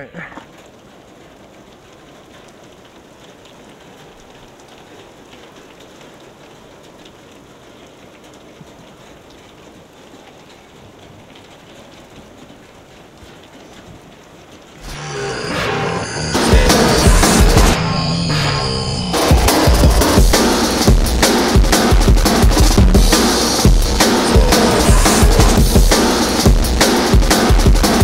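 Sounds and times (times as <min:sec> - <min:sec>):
rain-like hiss: 0:00.0 - 0:28.0.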